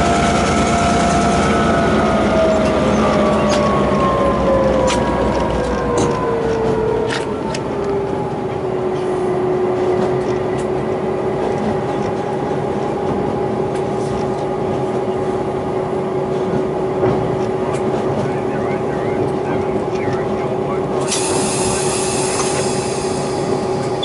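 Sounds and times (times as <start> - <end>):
diesel locomotive droning whine: 0.0 - 24.0
train rumbling on track: 0.0 - 24.0.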